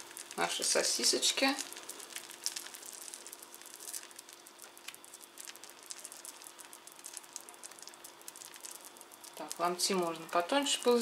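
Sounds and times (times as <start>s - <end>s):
tortilla sizzling in pan: 0.0s - 11.0s.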